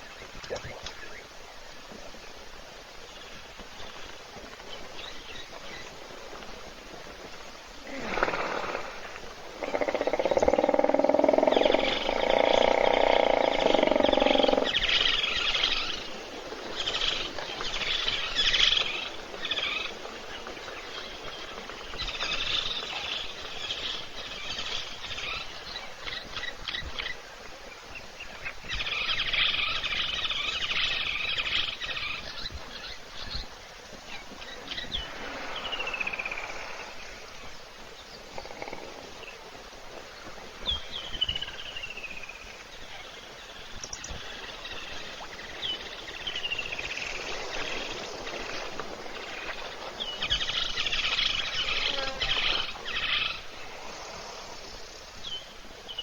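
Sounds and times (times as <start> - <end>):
wild birds chirping: 3.0 - 56.0.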